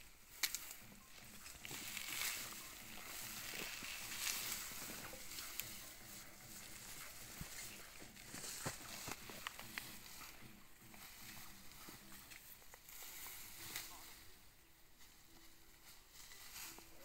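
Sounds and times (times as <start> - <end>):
plant stems and leaves rustling: 0.0 - 17.0.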